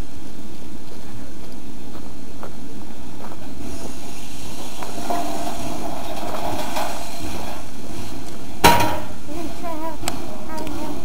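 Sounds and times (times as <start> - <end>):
steam locomotive rumble: 0.0 - 11.0.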